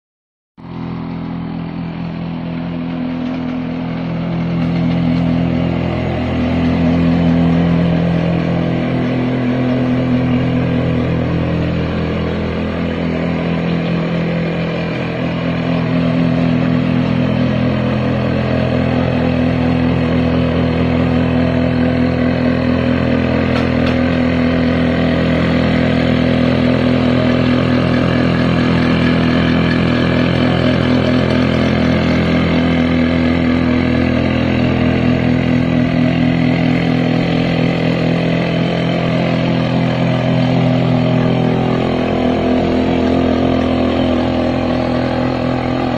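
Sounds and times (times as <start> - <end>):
small petrol engine running: 0.6 - 45.9.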